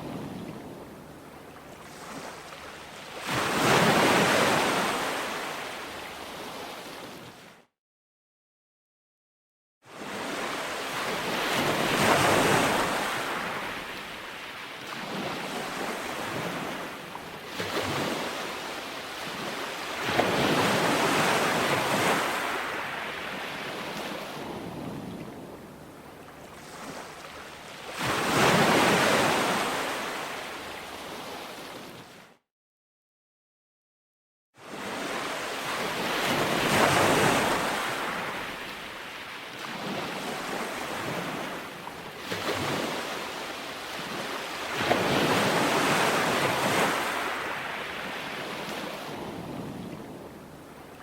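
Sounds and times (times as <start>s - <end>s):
ocean waves breaking on shore: 0.0s - 7.7s, 9.9s - 32.4s, 34.6s - 51.0s.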